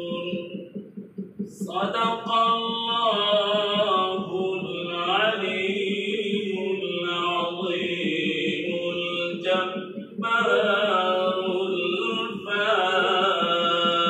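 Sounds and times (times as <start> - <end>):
man chanting melodically: 0.0 - 0.5, 1.5 - 14.0.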